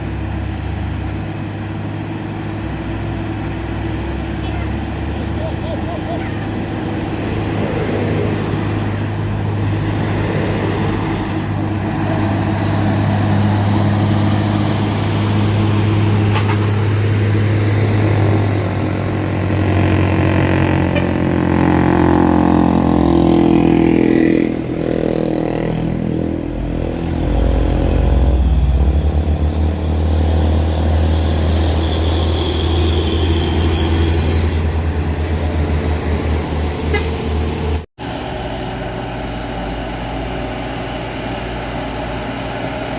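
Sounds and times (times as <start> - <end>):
truck engine droning under load: 0.0 - 42.9.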